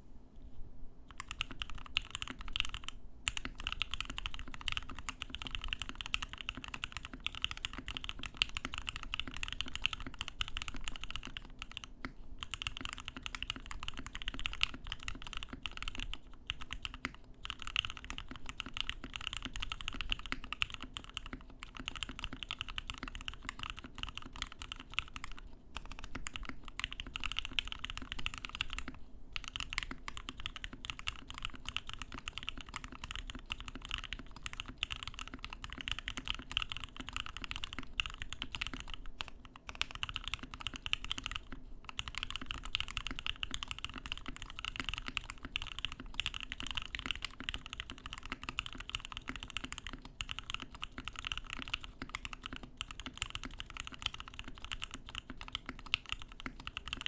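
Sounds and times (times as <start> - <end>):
fast mechanical keyboard typing: 1.1 - 57.0.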